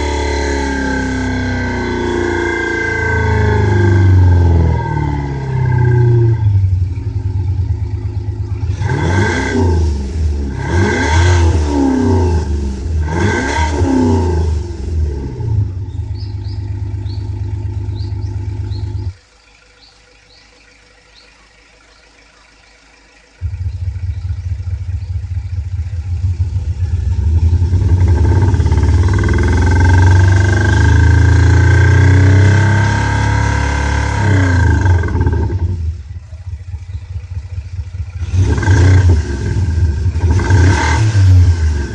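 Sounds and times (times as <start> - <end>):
simulated engine idling and revving: 0.0 - 41.9.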